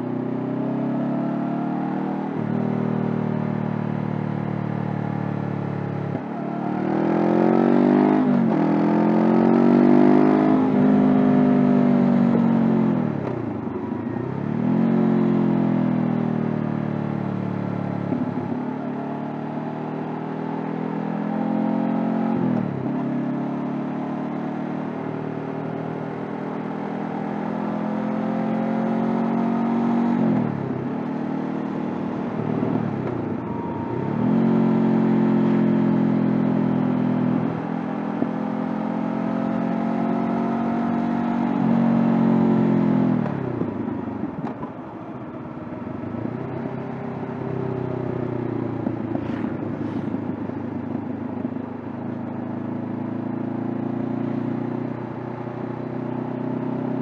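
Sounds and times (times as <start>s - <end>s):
motorcycle engine revving: 5.5s - 57.0s.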